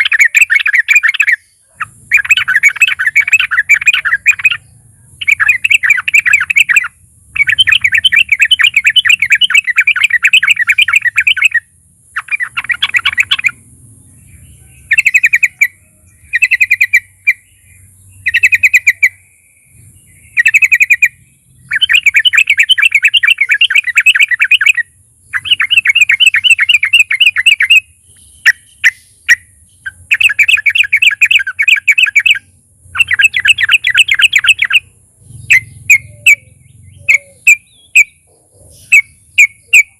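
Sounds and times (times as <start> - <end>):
bird singing chattering runs: 0.0 - 39.9.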